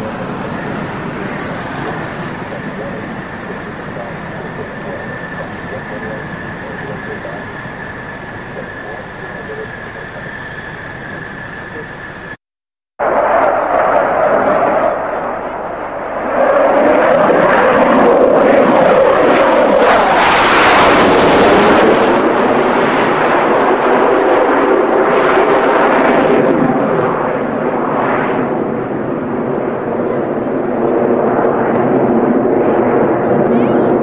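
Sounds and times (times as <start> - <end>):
jet fighter in afterburner: 0.0 - 12.4, 13.0 - 34.0.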